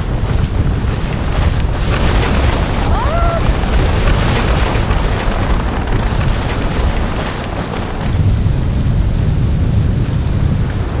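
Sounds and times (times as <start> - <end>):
storm wind buffeting microphone: 0.0 - 11.0.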